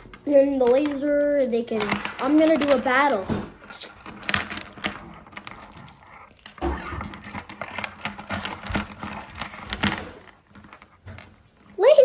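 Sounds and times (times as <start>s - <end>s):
plastic toys clicking together: 0.0s - 11.8s.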